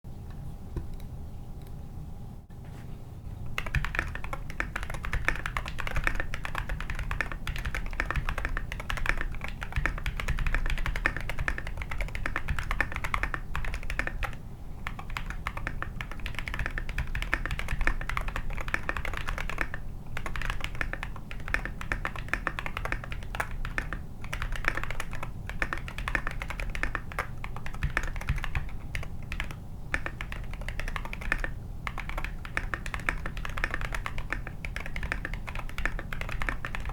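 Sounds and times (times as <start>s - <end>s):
mechanical keyboard typing: 3.5s - 36.9s.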